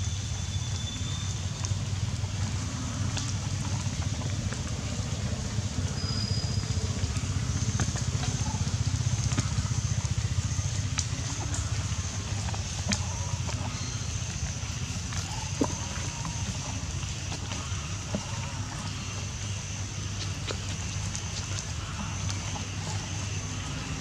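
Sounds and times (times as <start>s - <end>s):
faint high insect-like tones: 0.0s - 4.0s, 5.1s - 24.0s.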